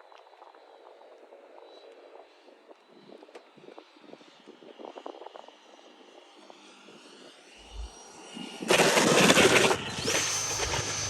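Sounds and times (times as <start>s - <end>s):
model jet fan whine: 0.5s - 11.0s.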